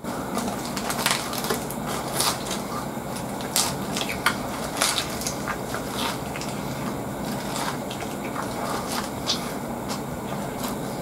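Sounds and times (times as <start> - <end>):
crunchy lettuce chewing: 0.0 - 11.0
paper wrapper crinkling: 0.3 - 11.0.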